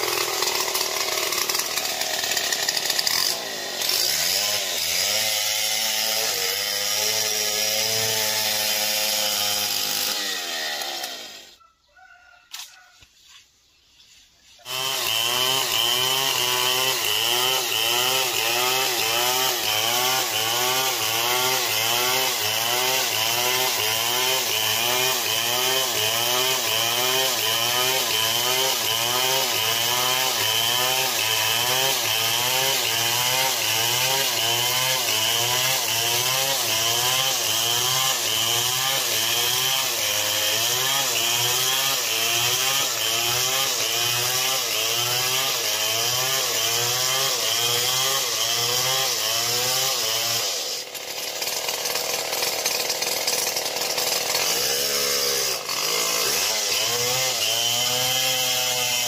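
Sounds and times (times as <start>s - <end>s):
chainsaw cutting wood: 0.0s - 11.6s, 14.5s - 59.0s.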